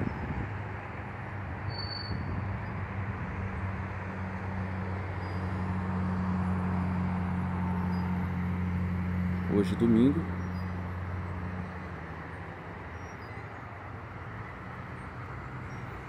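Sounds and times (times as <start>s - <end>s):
heavy truck passing: 0.0s - 16.0s
highway traffic: 0.0s - 16.0s.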